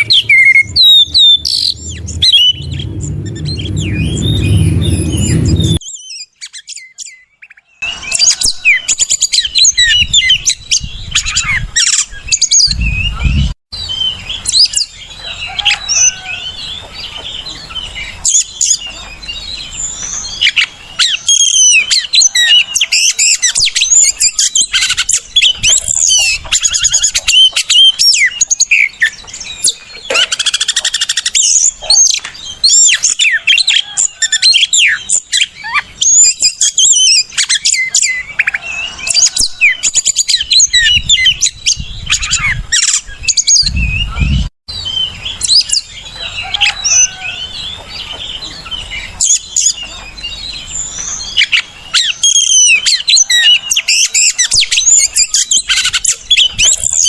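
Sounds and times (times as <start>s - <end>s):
bird singing: 0.0s - 57.0s.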